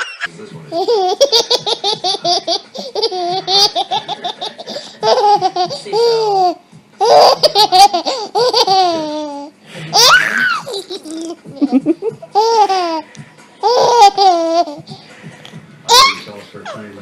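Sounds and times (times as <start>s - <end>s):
baby laughing: 0.0s - 15.0s, 15.9s - 16.8s.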